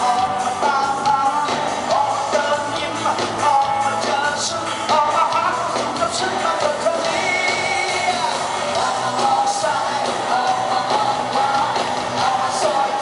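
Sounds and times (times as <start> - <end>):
live pop band music: 0.0 - 13.0
person singing: 0.0 - 13.0.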